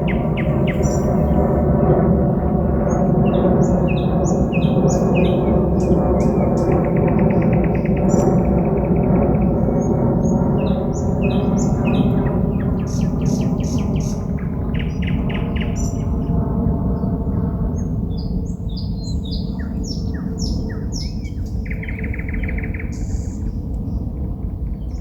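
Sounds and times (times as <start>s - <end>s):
songbird singing trills: 0.0s - 1.8s, 2.9s - 16.1s, 18.2s - 24.0s
steady low hum: 0.0s - 25.0s.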